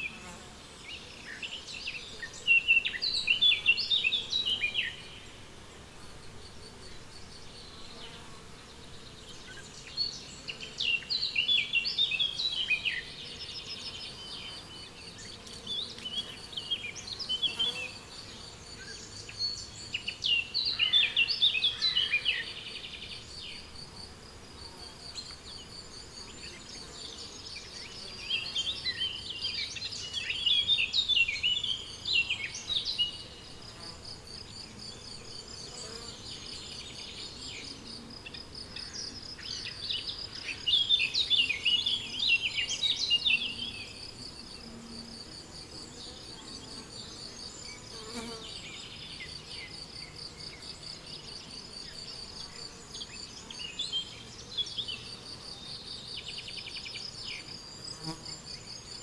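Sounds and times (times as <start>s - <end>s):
faint buzzing insects: 0.0s - 59.0s.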